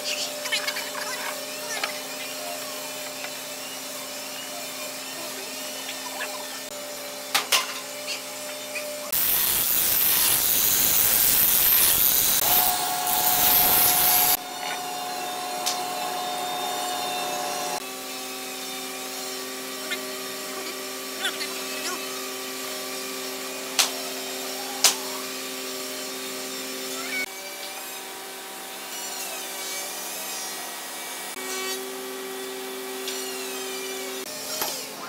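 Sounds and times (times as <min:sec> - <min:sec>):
angle grinder sanding wood: 0:00.0 - 0:35.0.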